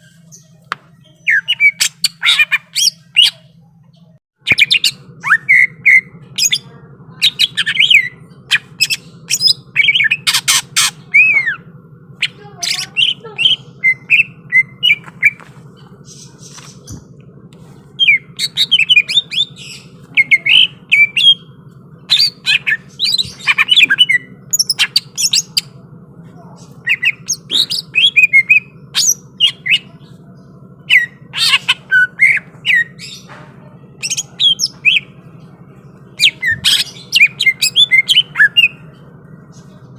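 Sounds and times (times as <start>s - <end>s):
steady low hum: 0.0s - 39.9s
bird singing sharp calls: 0.1s - 3.6s, 4.4s - 25.8s, 26.5s - 39.9s.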